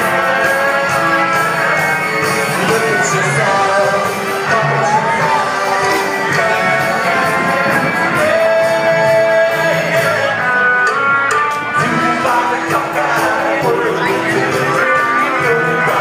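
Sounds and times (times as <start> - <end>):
person singing: 0.0 - 16.0
rock band playing live: 0.0 - 16.0
steady drum beat: 0.0 - 16.0.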